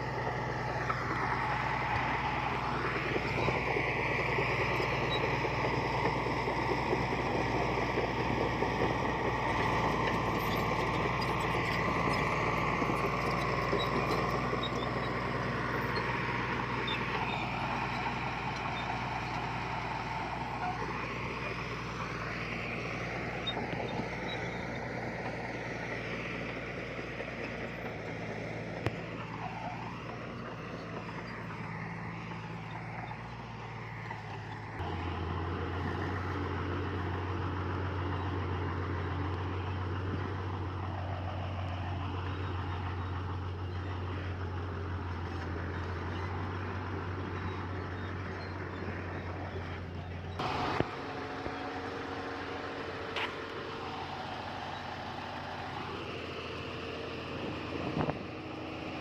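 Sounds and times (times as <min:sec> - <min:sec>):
diesel machinery engine running: 0:00.0 - 0:59.0.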